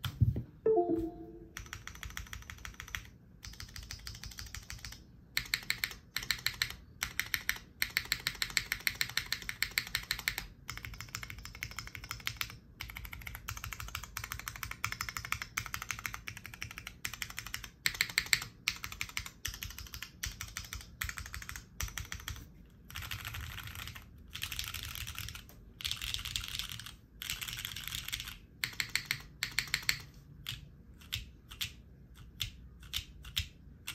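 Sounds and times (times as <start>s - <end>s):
mechanical keyboard typing: 0.0s - 33.9s.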